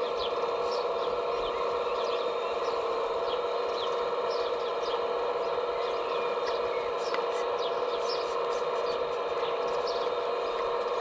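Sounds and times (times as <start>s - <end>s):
birds chirping: 0.0s - 11.0s
electric motor whining: 0.0s - 11.0s.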